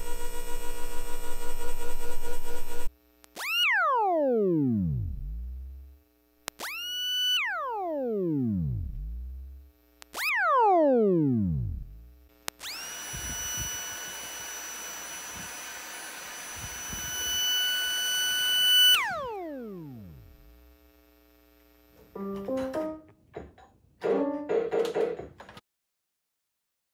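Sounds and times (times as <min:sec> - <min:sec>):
electronic motor whine: 0:00.0 - 0:21.9.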